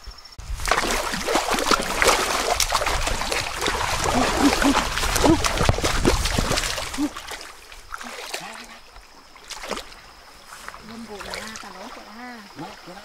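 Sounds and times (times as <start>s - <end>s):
water splashing in stream: 0.4s - 13.0s.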